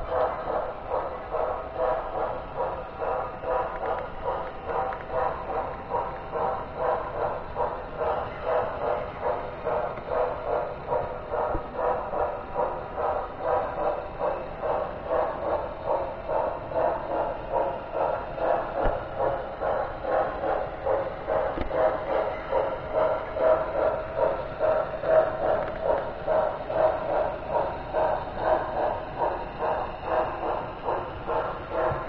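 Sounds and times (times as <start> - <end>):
model train running on track: 0.0 - 32.0.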